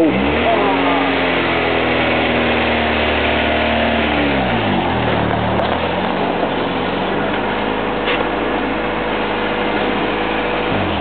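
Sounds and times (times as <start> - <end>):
car engine revving then idling: 0.0 - 11.0.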